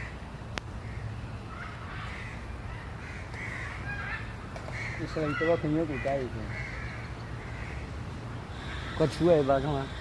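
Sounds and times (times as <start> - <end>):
crows cawing: 0.0 - 0.2, 0.8 - 10.0.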